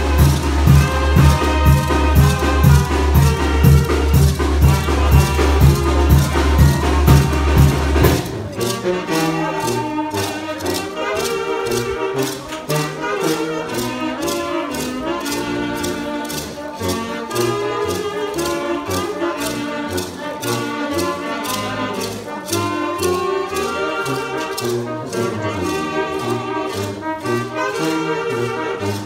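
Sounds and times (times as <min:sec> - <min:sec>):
brass band playing dance music: 0:00.0 - 0:29.0
percussion beat: 0:00.0 - 0:29.0.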